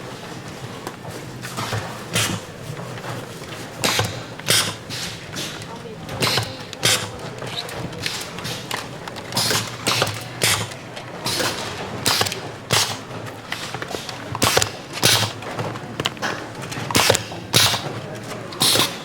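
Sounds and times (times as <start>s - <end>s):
factory floor hum: 0.0s - 19.0s
machine mechanical clacks: 0.0s - 19.0s.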